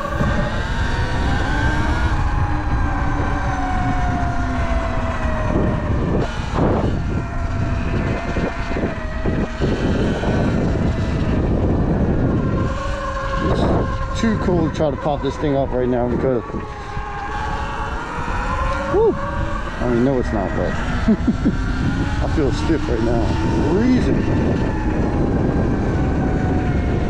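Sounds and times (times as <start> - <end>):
electric dirt bike motor whining: 0.0 - 4.6, 5.2 - 14.6, 15.4 - 27.0.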